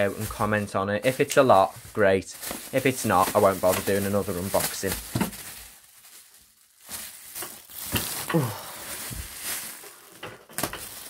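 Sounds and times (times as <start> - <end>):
plastic packaging rustling: 0.0 - 11.0.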